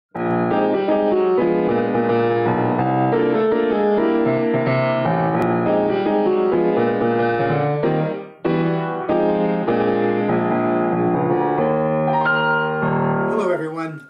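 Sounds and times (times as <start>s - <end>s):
piano music: 0.1s - 14.0s.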